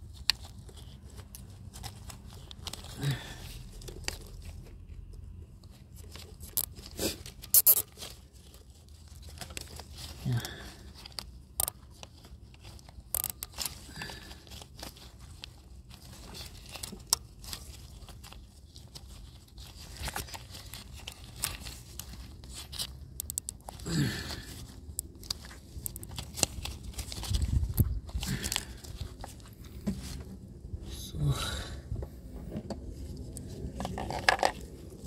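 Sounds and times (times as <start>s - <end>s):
rustling or tearing: 0.0s - 30.6s.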